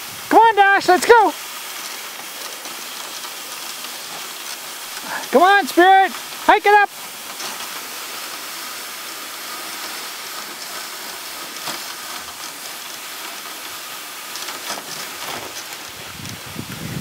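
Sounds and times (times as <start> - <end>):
sled runners hissing over snow: 0.0 - 17.0.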